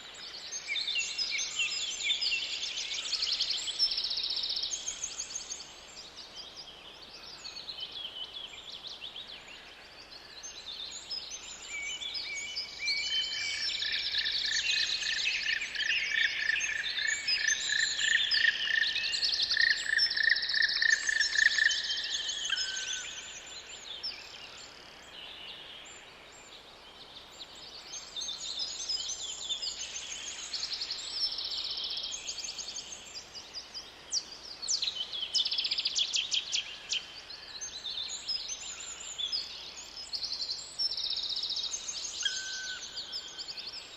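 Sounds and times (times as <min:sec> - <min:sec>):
songbirds singing and chirping: 0:00.0 - 0:43.9.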